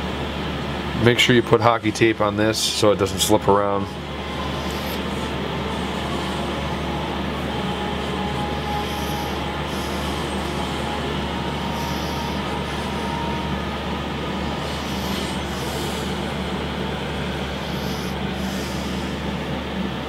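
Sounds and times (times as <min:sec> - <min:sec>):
droning hum with hiss: 0:00.0 - 0:20.0.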